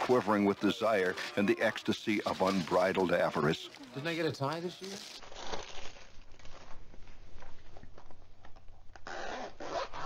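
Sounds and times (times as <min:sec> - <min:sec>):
plastic wrapping crinkling: 0:00.2 - 0:08.6.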